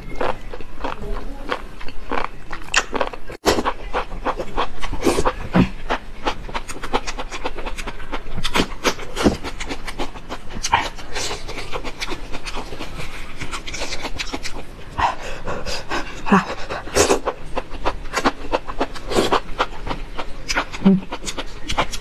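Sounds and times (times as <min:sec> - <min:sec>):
wet chewing mouth clicks: 0:00.2 - 0:14.6, 0:16.4 - 0:22.0.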